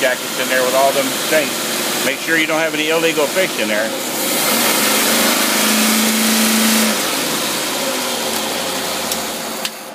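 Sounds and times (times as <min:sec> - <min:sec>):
engine at raised revs: 0:00.0 - 0:09.9.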